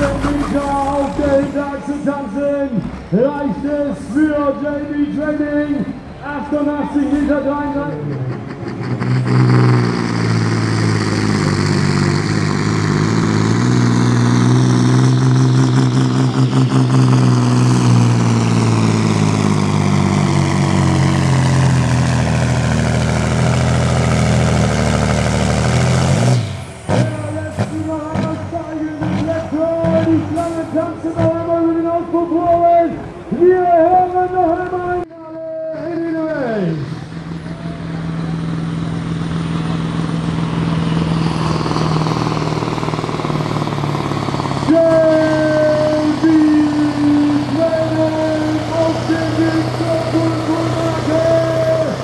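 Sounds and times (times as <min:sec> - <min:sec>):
diesel engine running flat out: 0:00.0 - 0:52.0.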